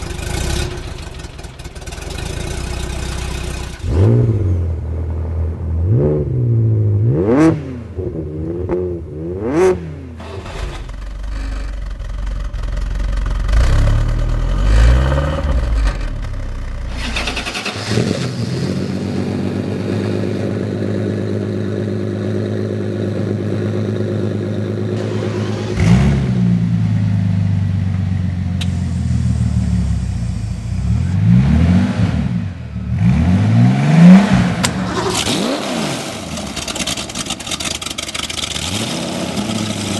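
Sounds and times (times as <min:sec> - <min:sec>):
engine revving and idling: 0:00.0 - 0:39.9.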